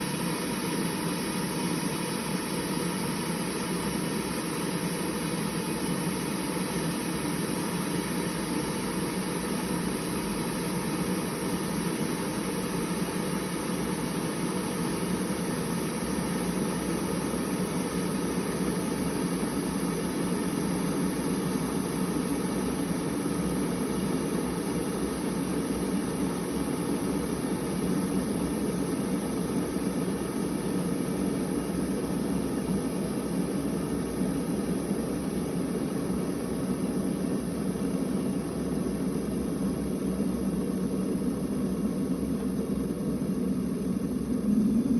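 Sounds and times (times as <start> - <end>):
machine humming and hissing: 0.0 - 44.9.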